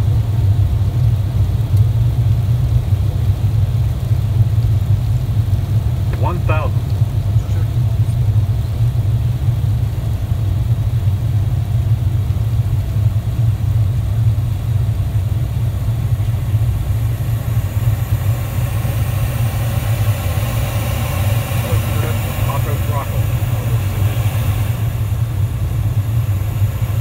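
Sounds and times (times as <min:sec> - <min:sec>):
rumble of air and engines: 0:00.0 - 0:27.0.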